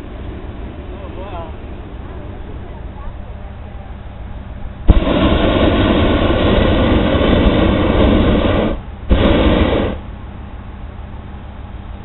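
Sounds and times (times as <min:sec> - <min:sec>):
propane burner blasts: 0:00.0 - 0:12.0.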